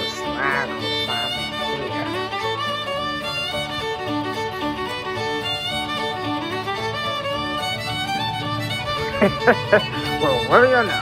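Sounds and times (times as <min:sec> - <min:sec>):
lively fiddle music with bass: 0:00.0 - 0:11.0.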